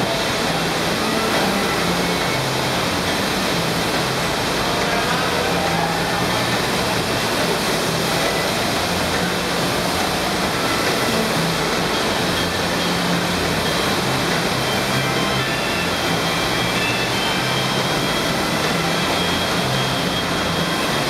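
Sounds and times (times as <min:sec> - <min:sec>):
water rushing up surf machine: 0:00.0 - 0:21.0.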